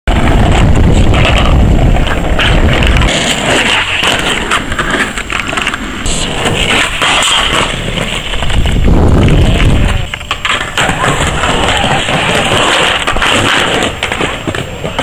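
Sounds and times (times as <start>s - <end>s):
skateboard wheels rolling on asphalt: 0.1s - 15.0s.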